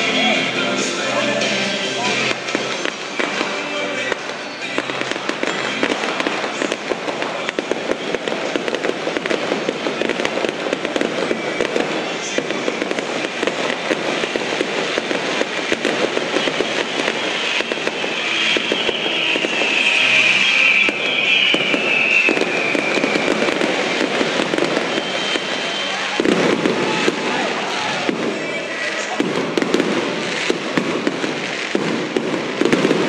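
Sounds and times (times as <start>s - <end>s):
fireworks crackling and popping: 0.0s - 33.0s
high firework whistle: 0.0s - 33.0s.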